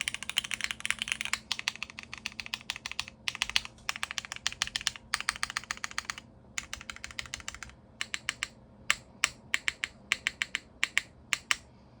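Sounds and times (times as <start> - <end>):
mechanical keyboard typing: 0.0 - 11.6.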